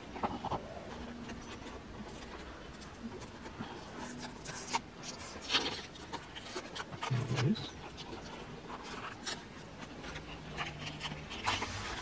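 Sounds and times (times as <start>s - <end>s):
cardboard scraping and rustling: 0.0s - 12.0s.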